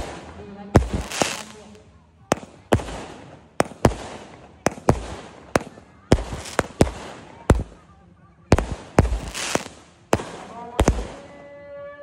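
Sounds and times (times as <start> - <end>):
firework hiss: 0.0 - 1.8, 2.4 - 7.8, 8.5 - 11.3
firework bangs: 0.0 - 7.9, 8.5 - 11.5.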